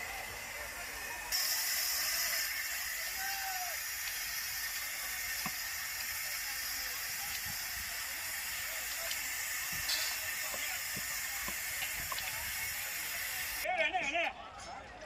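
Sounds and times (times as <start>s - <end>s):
fire hissing and crackling: 0.0s - 13.7s.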